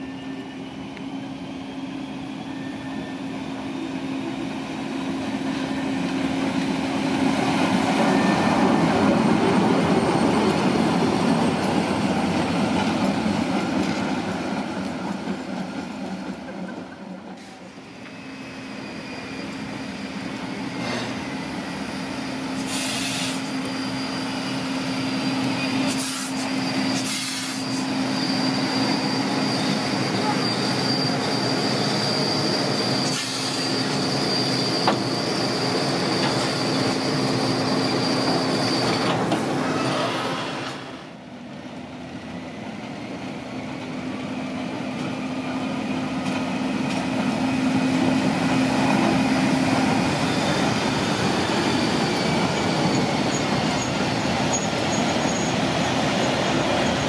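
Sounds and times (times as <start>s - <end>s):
high wheel squeal: 0.0s - 13.8s, 17.4s - 41.2s, 43.5s - 57.0s
electric locomotive hum: 0.0s - 57.0s.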